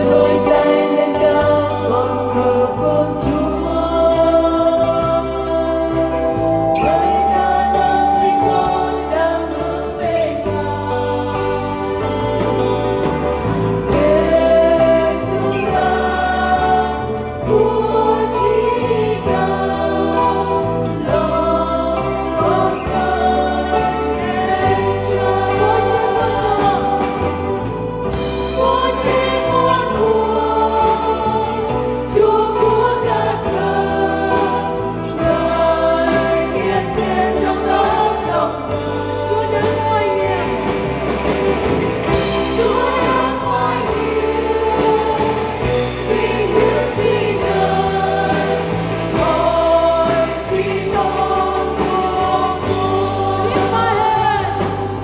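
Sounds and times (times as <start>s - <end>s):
band bass line: 0.0s - 55.0s
choir singing: 0.0s - 55.0s.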